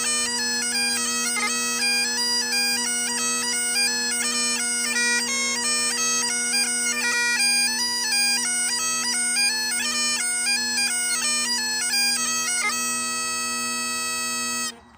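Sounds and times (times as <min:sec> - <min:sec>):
bagpipes playing a quick tune: 0:00.0 - 0:14.9.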